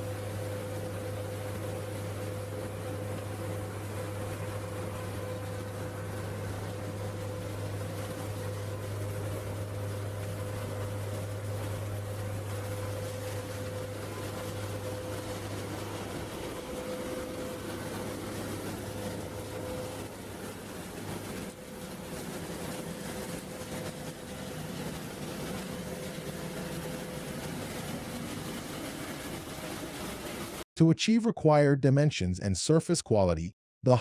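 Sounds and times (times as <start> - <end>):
low machinery hum: 0.0 - 30.6.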